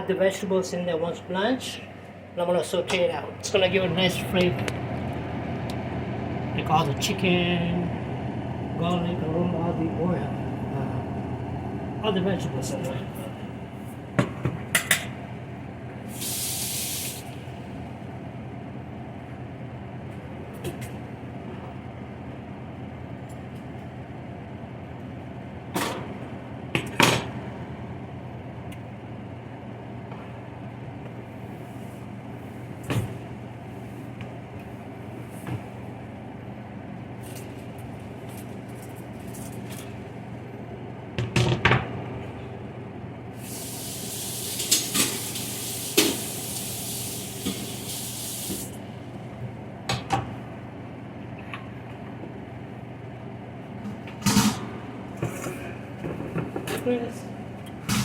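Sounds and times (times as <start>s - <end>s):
steady low hum: 0.0s - 44.2s, 48.7s - 58.0s.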